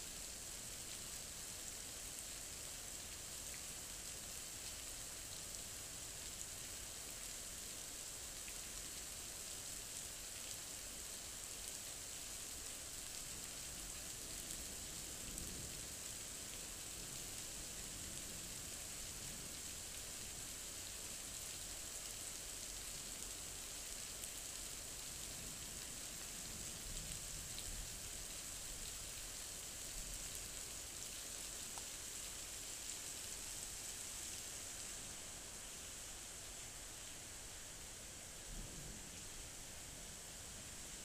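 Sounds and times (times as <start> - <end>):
rain falling: 0.1 - 41.0.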